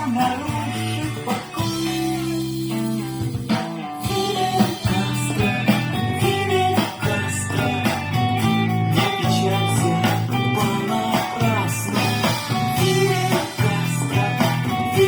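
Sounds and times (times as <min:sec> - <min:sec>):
instrumental guitar band music: 0:00.0 - 0:15.0.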